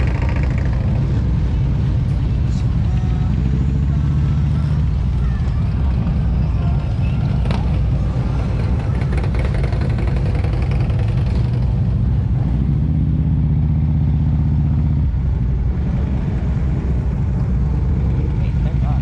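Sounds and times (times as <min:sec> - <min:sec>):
engine droning: 0:00.0 - 0:19.0
vehicle engines running: 0:00.0 - 0:19.0.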